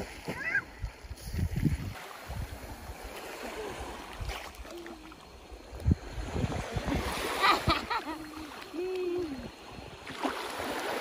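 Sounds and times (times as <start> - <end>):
water lapping at shoreline: 0.0 - 11.0.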